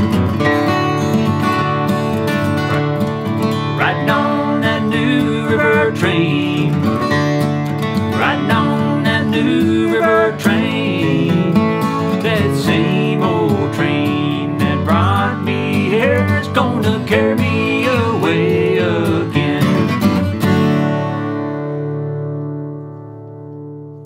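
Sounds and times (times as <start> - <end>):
acoustic guitars flatpicking bluegrass: 0.0 - 24.0.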